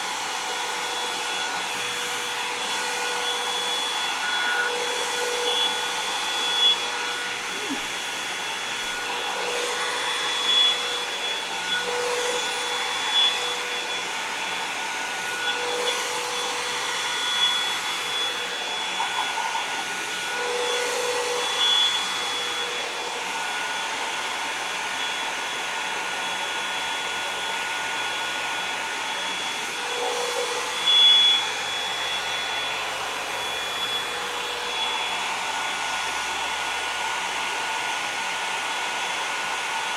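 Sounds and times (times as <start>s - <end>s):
hot-air brush whirring: 0.0s - 39.9s.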